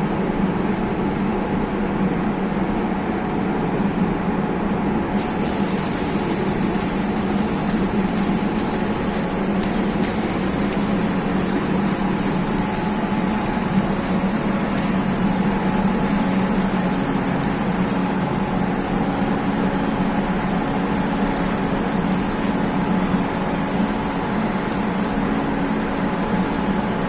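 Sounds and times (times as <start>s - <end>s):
machine humming with hiss: 0.1s - 27.0s.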